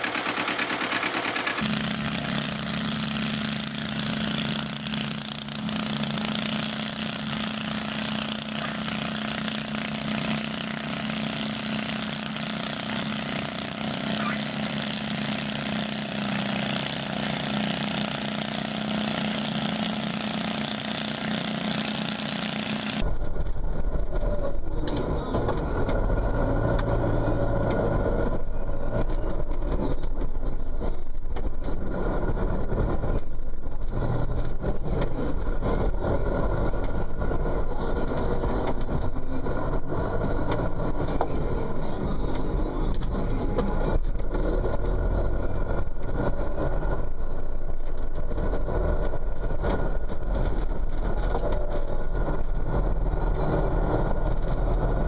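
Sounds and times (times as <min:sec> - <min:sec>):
garden tractor engine running hard: 0:00.0 - 0:55.0
tractor engine drone from cab: 0:00.0 - 0:55.0.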